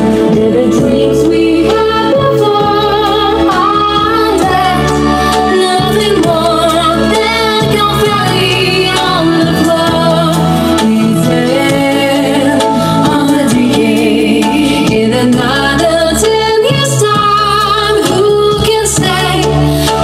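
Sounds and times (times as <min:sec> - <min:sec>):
pop music over sound system: 0:00.0 - 0:20.0
women singing into microphones: 0:00.0 - 0:20.0.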